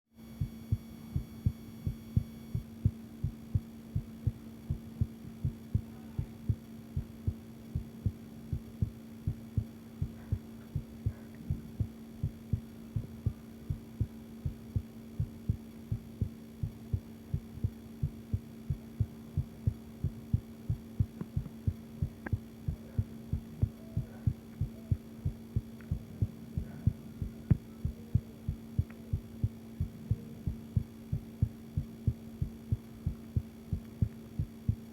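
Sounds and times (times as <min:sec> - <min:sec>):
steady low hum: 0:00.2 - 0:34.9
heartbeat thumps: 0:00.4 - 0:34.9.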